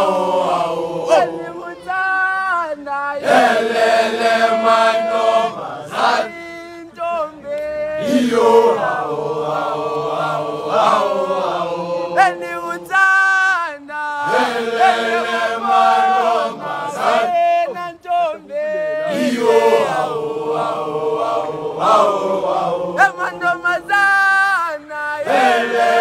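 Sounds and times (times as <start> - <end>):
boys singing a cappella: 0.0 - 26.0.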